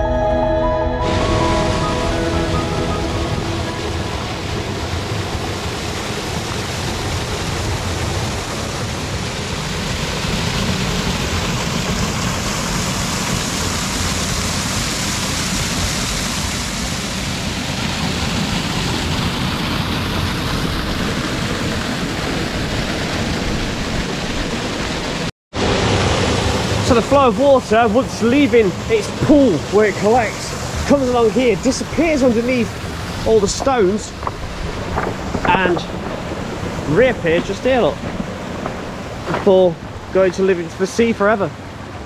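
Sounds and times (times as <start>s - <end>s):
waterfall splashing into pool: 1.2s - 42.0s.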